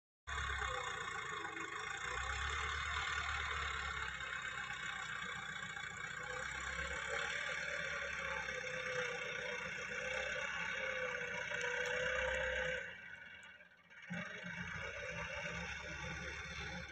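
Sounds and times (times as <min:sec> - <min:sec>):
tractor diesel engine running: 0:00.3 - 0:16.9.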